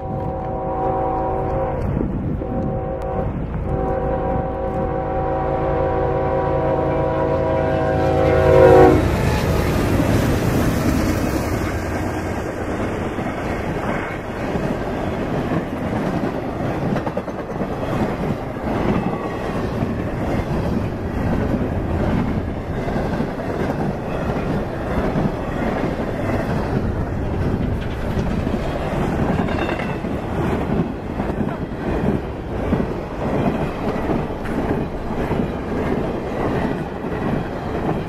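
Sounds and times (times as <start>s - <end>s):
freight train wheels on rail: 0.0s - 38.0s.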